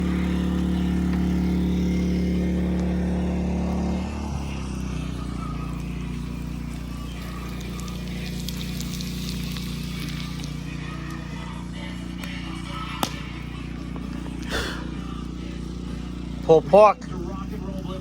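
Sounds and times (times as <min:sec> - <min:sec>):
motor engine running: 0:00.0 - 0:18.0.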